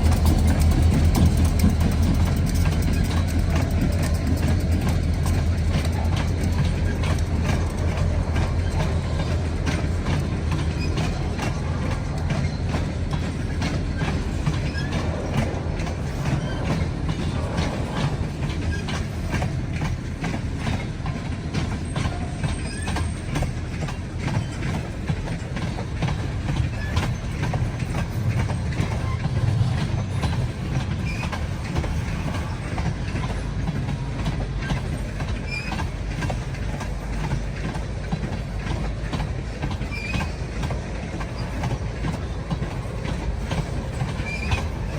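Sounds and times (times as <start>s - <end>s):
freight train rumbling past: 0.0s - 44.9s
wheels clicking over rail joints: 0.0s - 44.9s.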